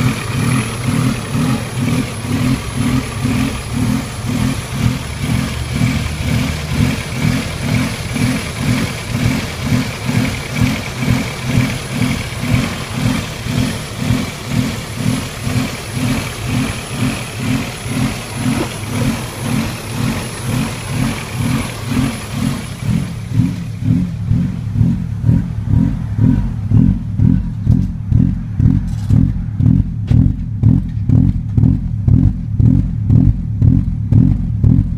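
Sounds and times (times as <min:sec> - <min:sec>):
car engine idling with pulsing surge: 0:00.0 - 0:34.9.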